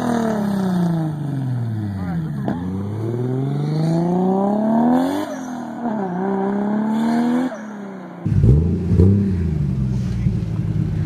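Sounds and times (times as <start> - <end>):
car engine accelerating hard: 0.0 - 11.0
car engine revving: 0.0 - 11.0.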